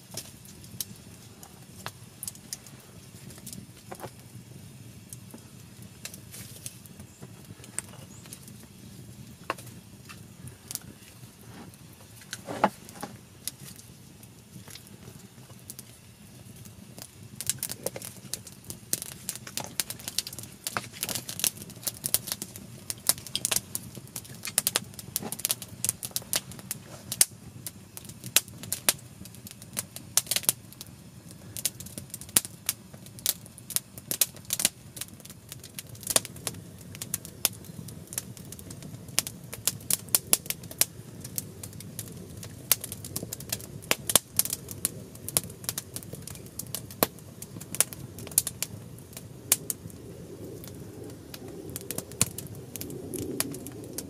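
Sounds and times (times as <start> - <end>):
campfire crackling and popping: 0.0 - 54.0
flames rushing: 0.0 - 54.0.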